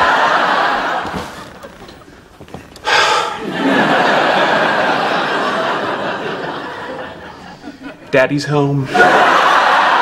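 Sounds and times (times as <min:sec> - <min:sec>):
audience laughing: 0:00.0 - 0:02.1, 0:03.2 - 0:10.0.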